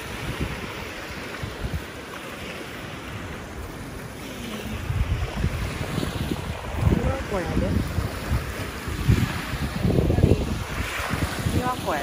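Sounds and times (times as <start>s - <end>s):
small waves breaking on shore: 0.0s - 12.0s
wind buffeting microphone: 0.0s - 12.0s.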